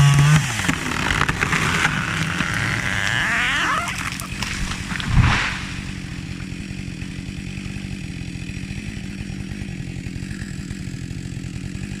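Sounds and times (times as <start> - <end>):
chainsaw engine idling: 0.0 - 12.0.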